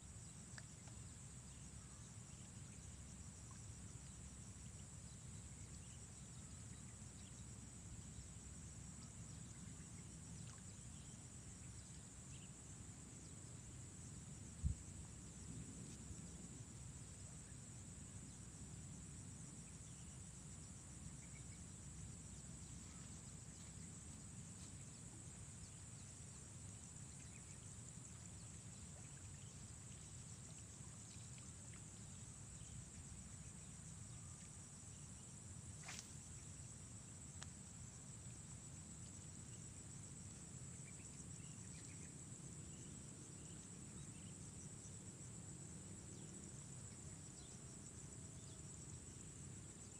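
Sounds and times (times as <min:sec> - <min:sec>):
high insect trill: 0:00.0 - 0:49.9.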